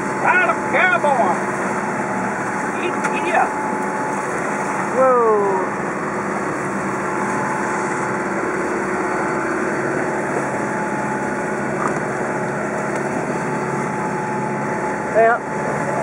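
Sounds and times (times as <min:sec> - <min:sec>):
boat engine humming: 0:00.0 - 0:16.0
sea rushing: 0:00.0 - 0:16.0.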